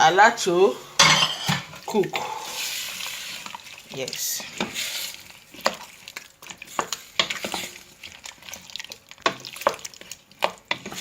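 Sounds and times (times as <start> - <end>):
spoon stirring a pot: 0.8 - 11.0.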